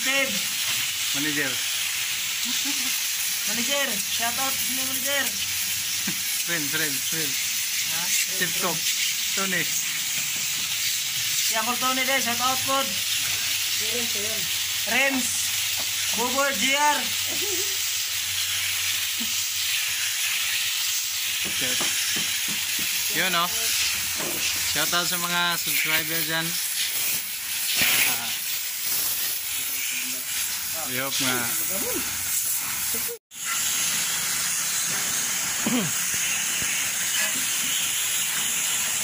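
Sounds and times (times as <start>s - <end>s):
pressure washer spraying: 0.0s - 39.0s.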